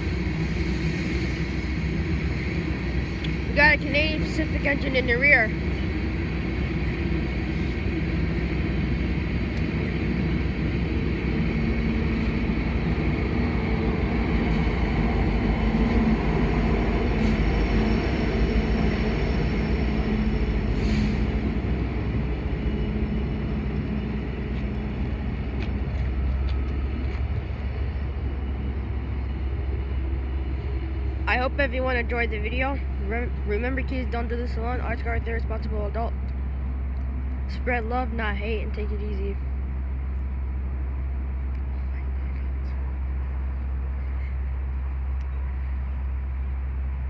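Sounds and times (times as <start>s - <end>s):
diesel locomotive engine hum: 0.0s - 47.0s
freight train rumbling on rails: 0.0s - 47.0s.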